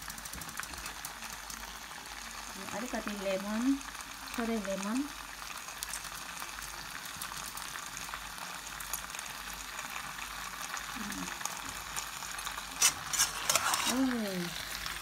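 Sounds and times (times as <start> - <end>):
curry sizzling softly in a pan: 0.0 - 15.0.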